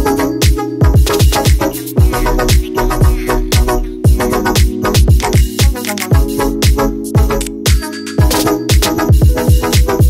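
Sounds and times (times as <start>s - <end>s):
dance music with kick drum: 0.0s - 10.0s.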